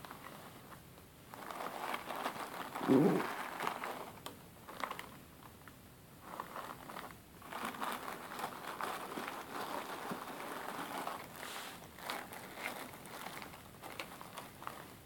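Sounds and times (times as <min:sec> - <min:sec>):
plastic bags rustling: 0:01.3 - 0:05.1, 0:06.2 - 0:15.0.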